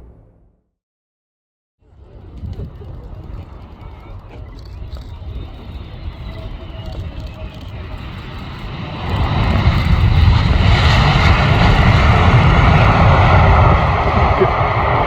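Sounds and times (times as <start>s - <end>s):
aircraft engine overhead: 1.9s - 15.0s.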